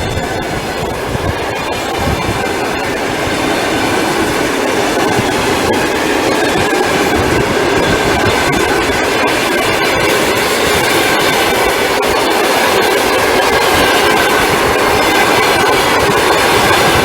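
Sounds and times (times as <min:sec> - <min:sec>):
train rumble: 0:00.0 - 0:17.0
train wheels clicking on rail joints: 0:00.0 - 0:17.0.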